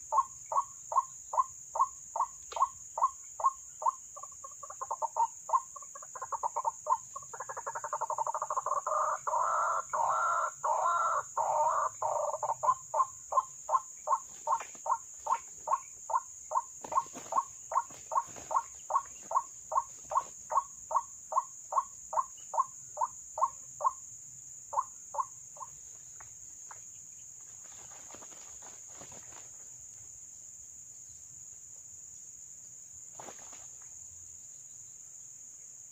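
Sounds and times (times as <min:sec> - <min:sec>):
high insect buzz: 0:00.0 - 0:35.9.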